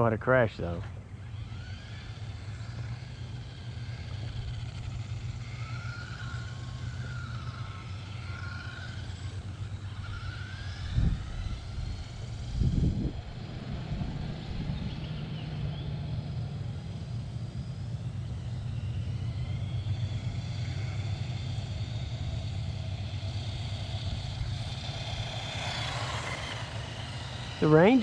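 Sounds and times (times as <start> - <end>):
low hum: 0.0 - 28.0
rc truck motor whining: 0.0 - 28.0.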